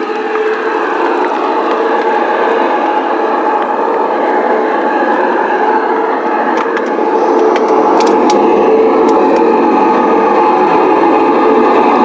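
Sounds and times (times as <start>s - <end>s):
model train motor whining: 0.0s - 12.0s
wheels rolling on track: 0.0s - 12.0s.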